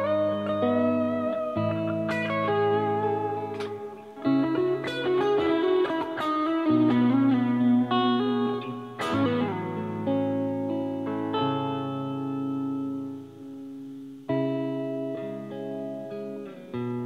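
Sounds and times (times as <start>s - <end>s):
electric guitar through amplifier: 0.0s - 17.0s
hard-picked guitar chord: 0.0s - 17.0s.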